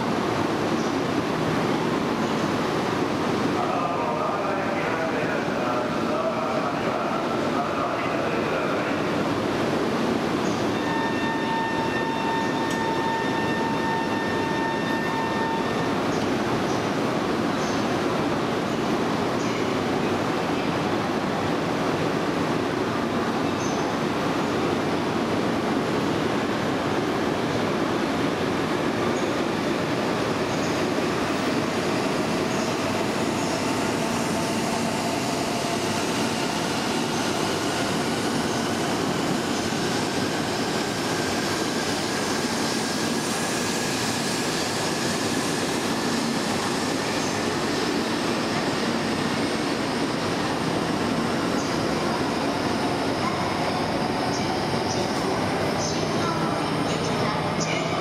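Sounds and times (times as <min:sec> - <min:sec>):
high-speed train rumble: 0:00.0 - 0:58.0.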